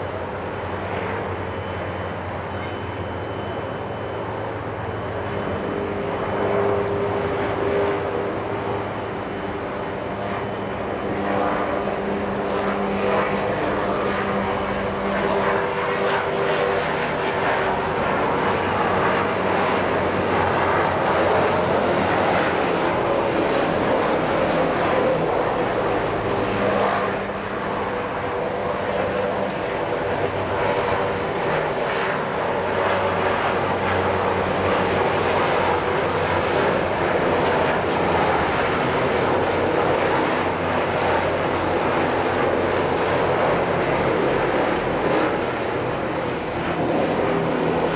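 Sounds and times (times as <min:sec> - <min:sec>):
helicopter rotor drone: 0:00.0 - 0:47.9.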